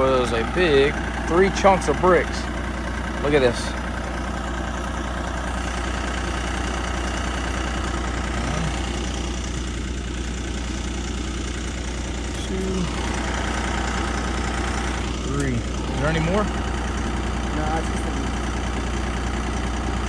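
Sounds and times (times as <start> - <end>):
stump grinder engine idling: 0.0 - 20.0.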